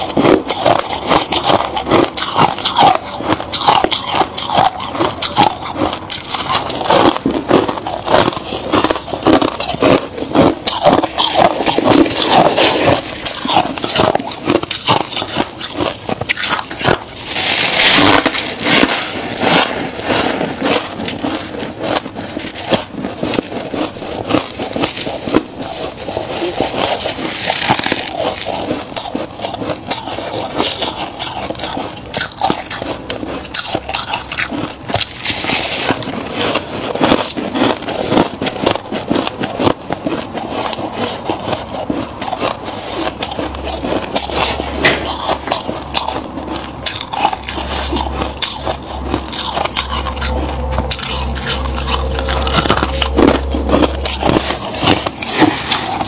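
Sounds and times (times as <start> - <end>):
frost crunching as chewed: 0.0 - 56.0.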